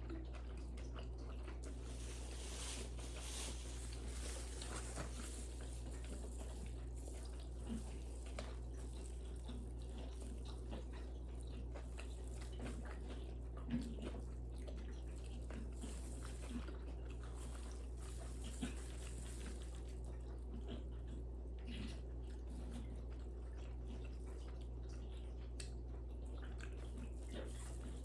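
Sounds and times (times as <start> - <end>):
chewing and biting food: 0.0 - 28.0
steady low hum: 0.0 - 28.0.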